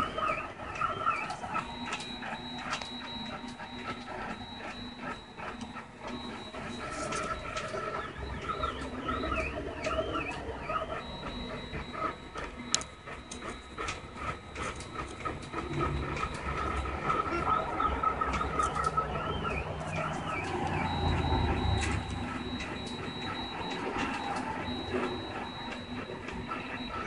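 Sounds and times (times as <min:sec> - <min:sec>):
printer stepper motors whirring: 0:00.0 - 0:27.0.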